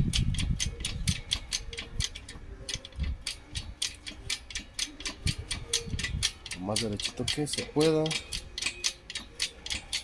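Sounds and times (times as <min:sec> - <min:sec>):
rapid ratchet-like clicking: 0:00.0 - 0:10.0.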